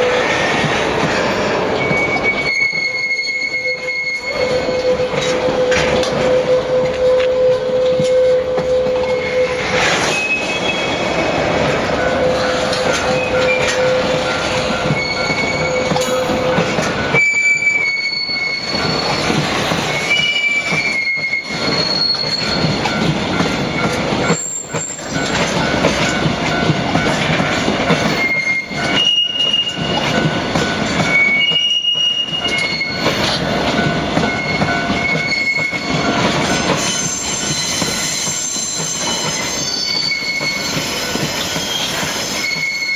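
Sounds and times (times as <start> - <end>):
train wheels squealing: 0.0 - 42.9.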